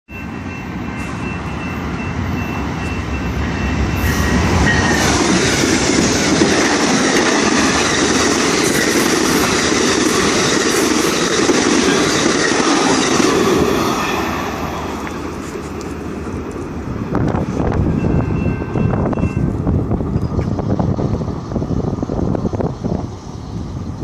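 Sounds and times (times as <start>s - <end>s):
train passing at speed: 0.1s - 24.0s
wheels on rails: 0.5s - 23.4s.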